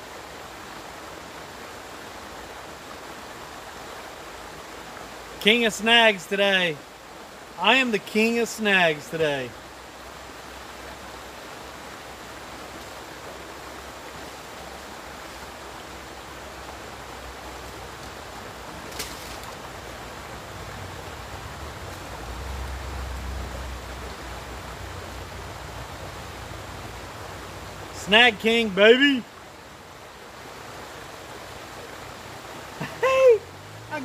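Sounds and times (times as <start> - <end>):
river flowing: 0.0 - 34.0.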